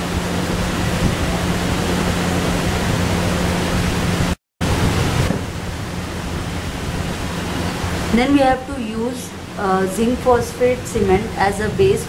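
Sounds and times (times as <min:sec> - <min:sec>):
loud steady hiss: 0:00.0 - 0:12.0
low hum: 0:00.0 - 0:12.0.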